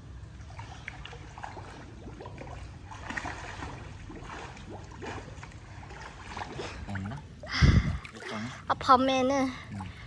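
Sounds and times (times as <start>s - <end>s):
pool water lapping: 0.0s - 10.0s
small splashes of swimming: 0.0s - 10.0s.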